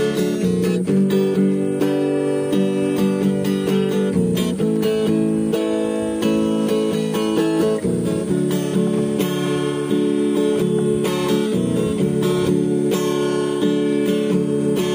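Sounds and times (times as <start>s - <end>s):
acoustic guitar piece: 0.0s - 14.9s.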